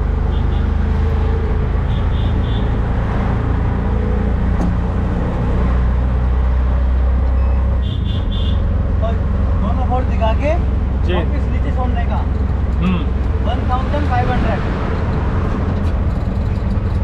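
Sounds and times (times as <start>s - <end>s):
vehicle engine humming under load: 0.0s - 17.0s.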